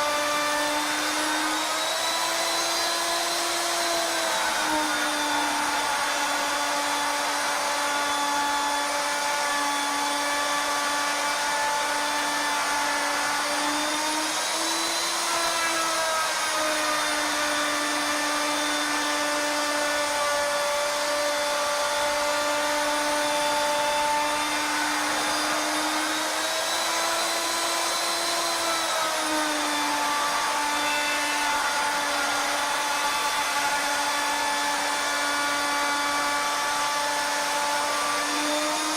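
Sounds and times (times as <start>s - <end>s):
router motor whine: 0.0s - 38.9s.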